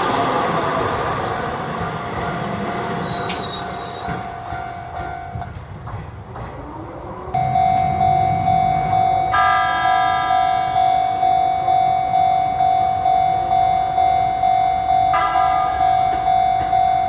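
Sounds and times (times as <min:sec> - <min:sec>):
crossing warning bell ringing: 0:00.0 - 0:05.7, 0:07.4 - 0:17.0
electric train passing: 0:00.0 - 0:17.0.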